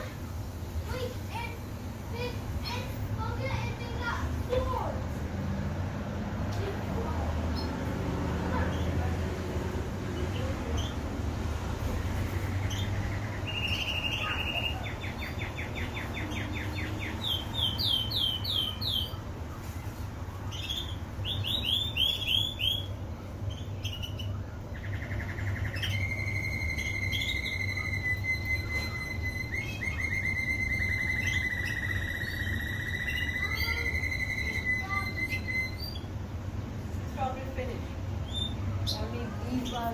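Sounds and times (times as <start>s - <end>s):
steady low hum: 0.0s - 39.9s
canary singing trills: 6.6s - 39.9s.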